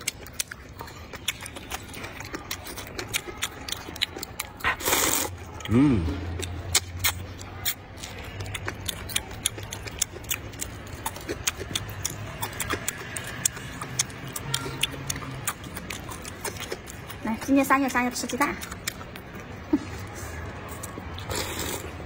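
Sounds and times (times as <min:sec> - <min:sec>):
man chewing wetly: 0:00.0 - 0:22.0.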